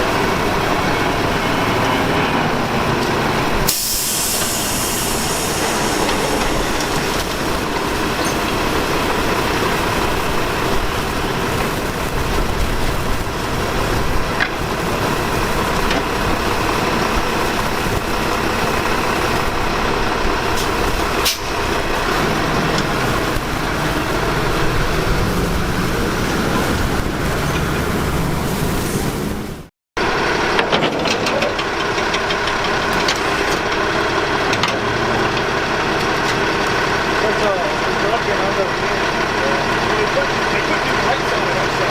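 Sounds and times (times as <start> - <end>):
garbage truck engine running: 0.0 - 41.9.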